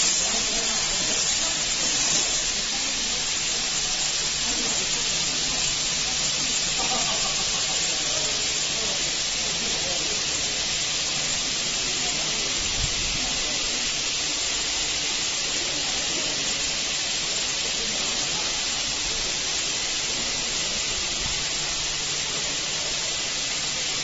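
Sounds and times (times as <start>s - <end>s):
high-pressure water jets hissing: 0.0s - 24.0s.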